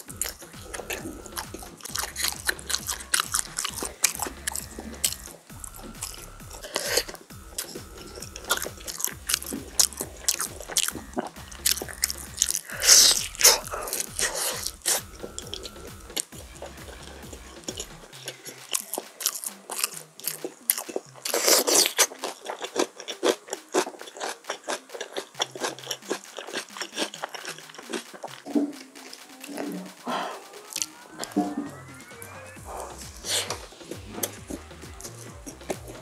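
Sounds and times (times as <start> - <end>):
chewing crispy chicken: 0.0 - 36.0.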